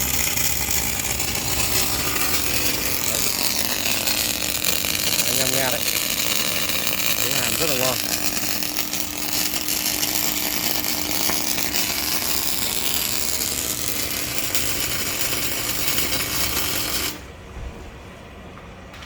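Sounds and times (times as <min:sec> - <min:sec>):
welding arc crackling: 0:00.0 - 0:17.4
steady hum: 0:00.0 - 0:19.0.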